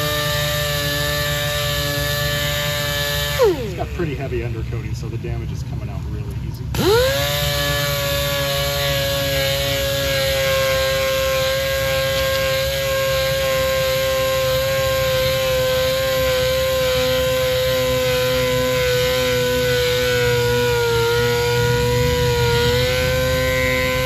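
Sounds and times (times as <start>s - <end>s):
power sander whining: 0.0s - 24.0s.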